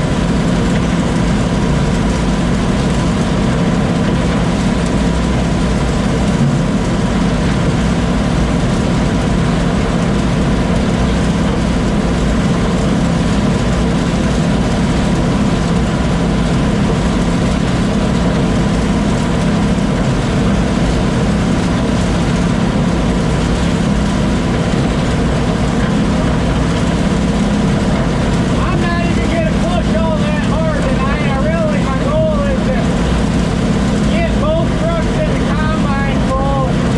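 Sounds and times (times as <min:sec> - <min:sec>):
combine harvester engine hum: 0:00.0 - 0:36.9.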